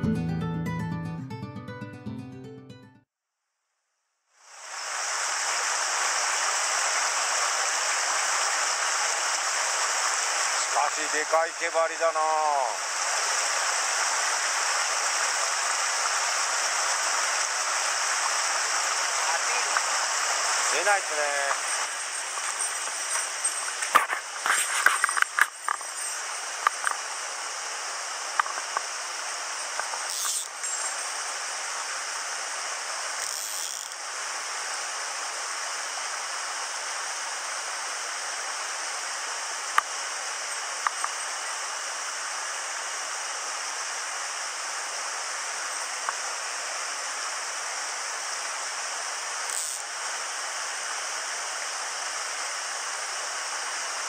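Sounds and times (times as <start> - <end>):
stream rushing over boulders: 4.4 - 54.0.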